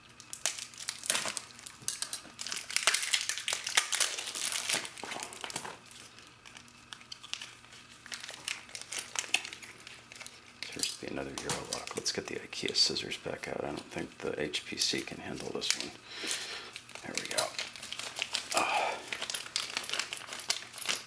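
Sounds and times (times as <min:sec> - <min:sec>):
plastic wrap and tape crinkling: 0:00.0 - 0:21.0.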